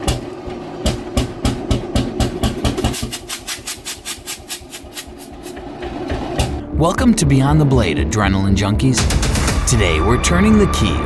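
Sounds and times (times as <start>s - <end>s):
old engine exhaust beats: 0.0s - 11.0s.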